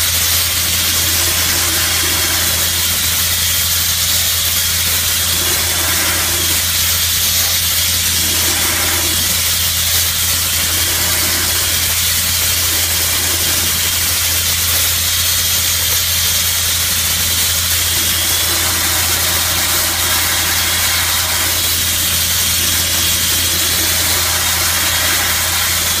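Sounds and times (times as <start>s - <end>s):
blasting nozzle hissing: 0.0s - 26.0s
low engine drone: 0.0s - 26.0s.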